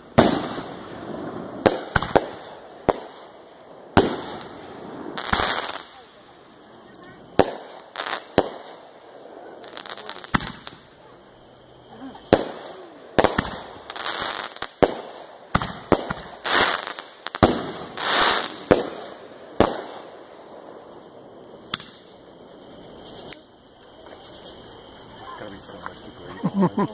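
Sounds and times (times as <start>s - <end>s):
fireworks bangs: 0.0s - 26.9s
fireworks hiss: 0.0s - 26.9s.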